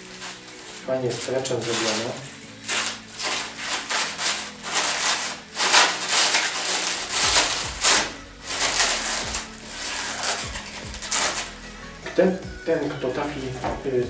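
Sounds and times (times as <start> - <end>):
plastic film crinkling and tearing: 0.0 - 12.2.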